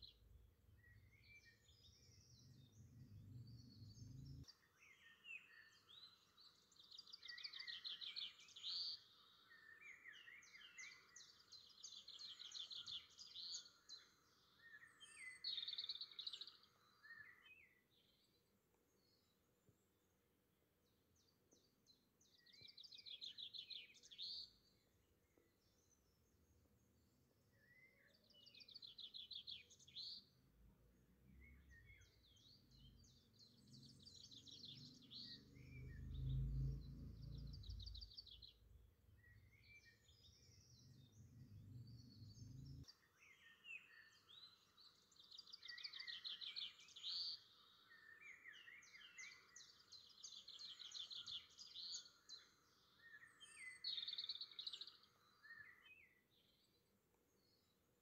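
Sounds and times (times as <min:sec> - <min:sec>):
birdsong trills and chirps: 0:00.0 - 0:20.2, 0:20.8 - 0:58.0.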